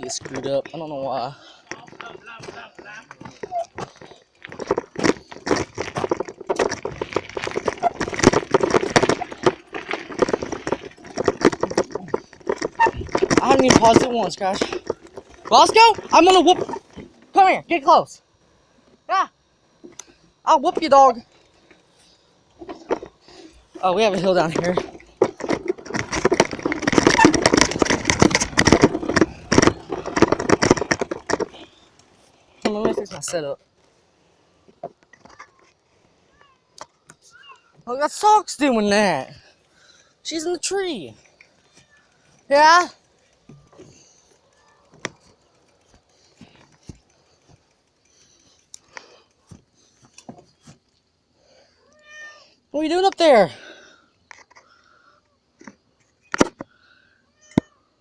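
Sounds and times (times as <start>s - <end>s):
bicycle rattling and knocking: 0.0s - 51.6s, 52.8s - 57.7s.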